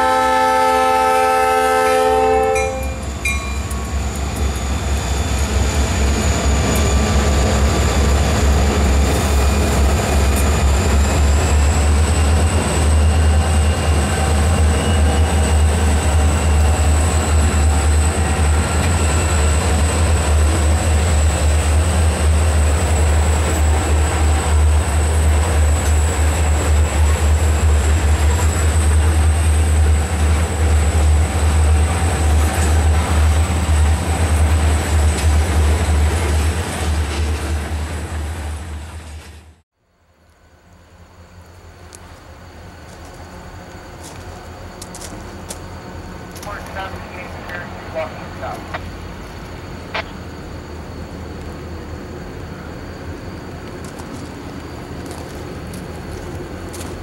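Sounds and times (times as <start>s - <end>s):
diesel locomotives rumbling past: 0.0s - 57.0s.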